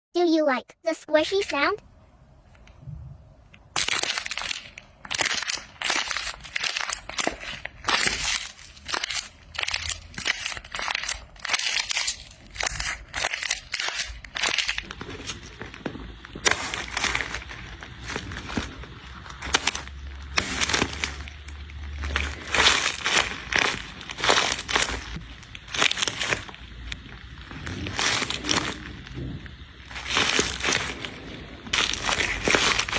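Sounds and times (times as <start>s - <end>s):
squishy object crackling: 3.5s - 32.9s.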